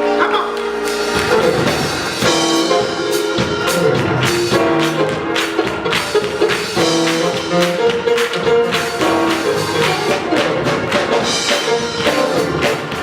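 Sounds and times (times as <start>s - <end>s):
live gospel band playing: 0.0s - 13.0s.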